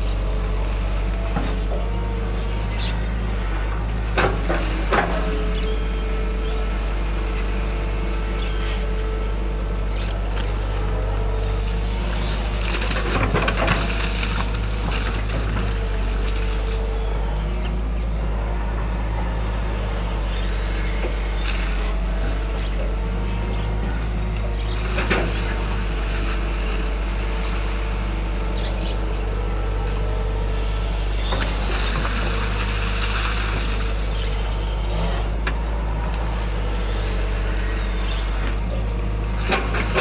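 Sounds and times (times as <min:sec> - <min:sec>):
excavator diesel engine: 0:00.0 - 0:40.0
hydraulic whine: 0:00.0 - 0:40.0.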